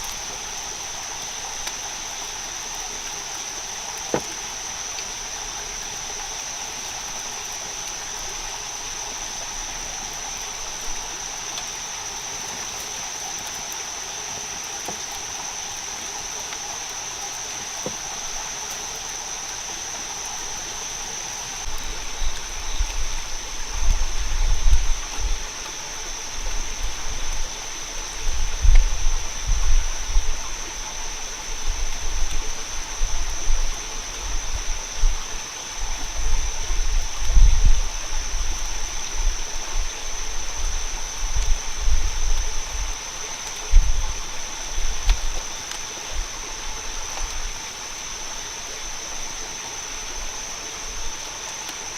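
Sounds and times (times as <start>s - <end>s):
stream running water: 0.0s - 51.9s.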